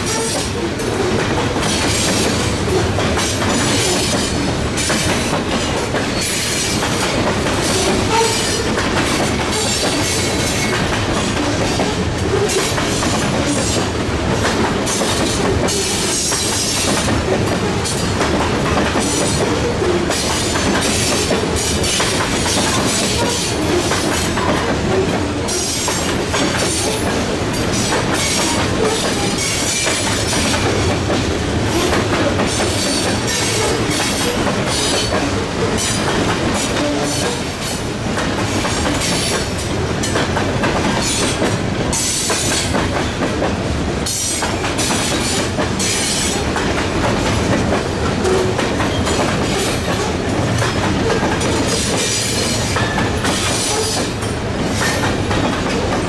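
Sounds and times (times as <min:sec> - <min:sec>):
freight train rumble: 0:00.0 - 0:56.0
train wheels clicking over rail joints: 0:00.0 - 0:56.0.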